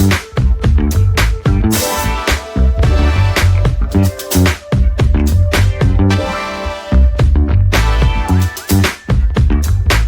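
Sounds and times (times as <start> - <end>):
music with heavy bass and drums: 0.0 - 10.0.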